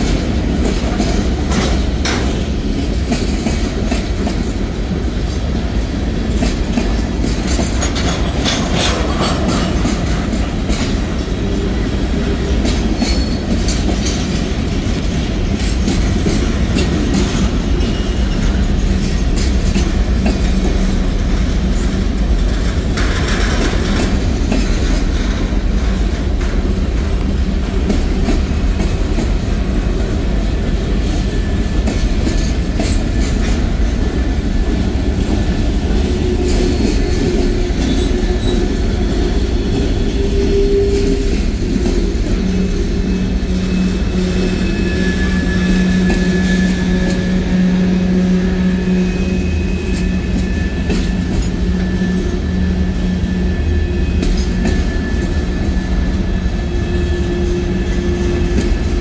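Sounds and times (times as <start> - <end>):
wheels clicking over rail joints: 0.0 - 47.7
freight train rolling past: 0.0 - 59.0.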